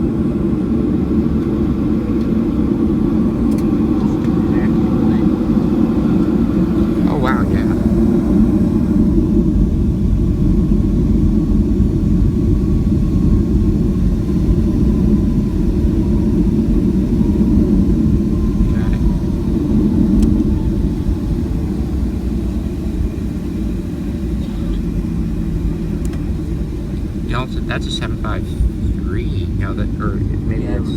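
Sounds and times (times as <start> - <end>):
faint engine whine: 0.0 - 30.9
low rumble of aircraft cabin: 0.0 - 30.9.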